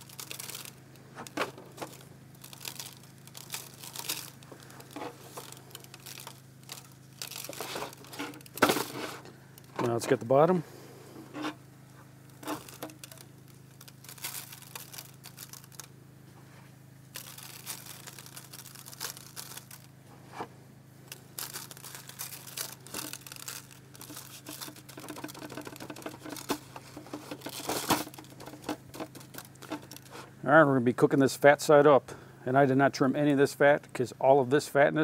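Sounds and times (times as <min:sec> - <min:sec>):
aluminum foil pan crinkling: 0:00.0 - 0:10.2, 0:11.3 - 0:20.5, 0:21.1 - 0:30.4
steady low hum: 0:00.0 - 0:35.0.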